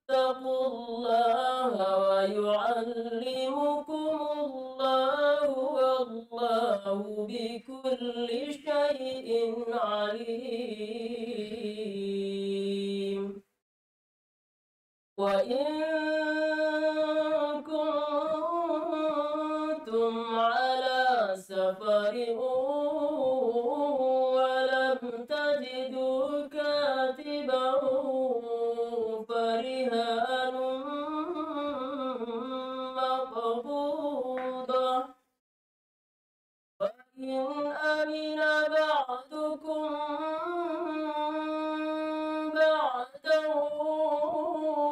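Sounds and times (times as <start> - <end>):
woman chanting melodically: 0.1 - 13.4, 15.2 - 35.2, 36.8 - 44.9.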